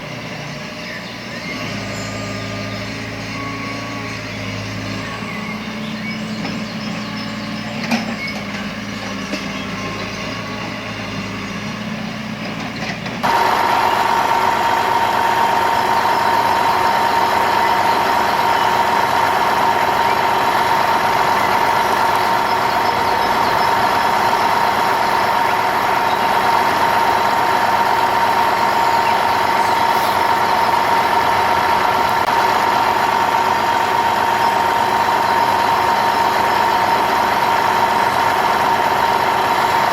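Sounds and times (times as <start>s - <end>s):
motor running with high whine: 0.0s - 12.4s, 13.2s - 39.9s.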